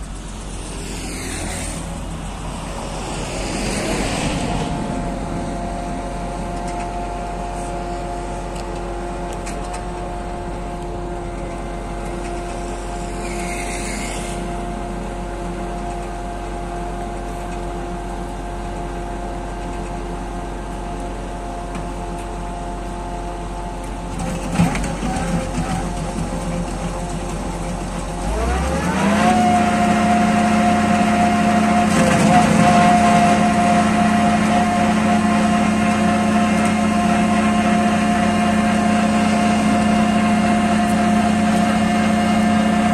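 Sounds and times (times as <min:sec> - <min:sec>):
milling machine engine drone: 0:00.0 - 0:42.9.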